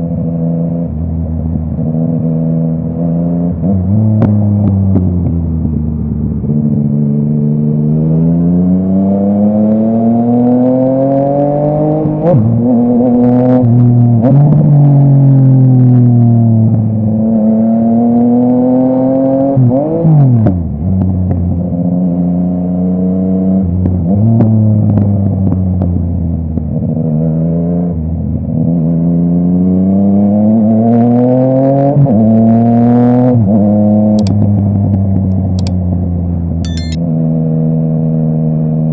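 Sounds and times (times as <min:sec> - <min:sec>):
motorcycle accelerating and shifting: 0:00.0 - 0:38.9.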